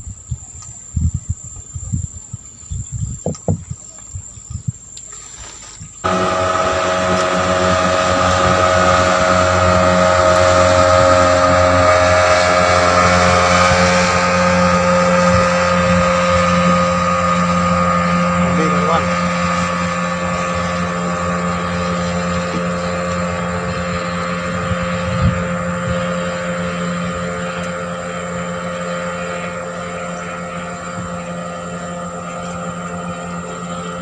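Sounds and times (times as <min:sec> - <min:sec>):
boat engine running: 0:06.0 - 0:34.0.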